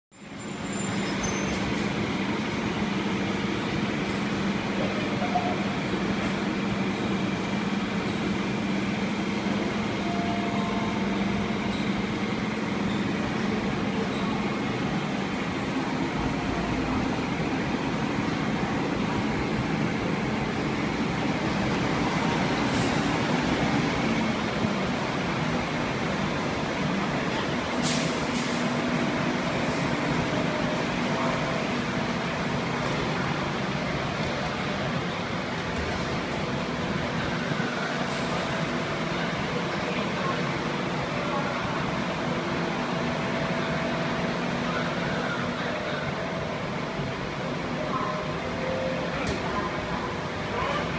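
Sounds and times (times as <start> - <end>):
train humming and rolling: 0.2 - 50.9.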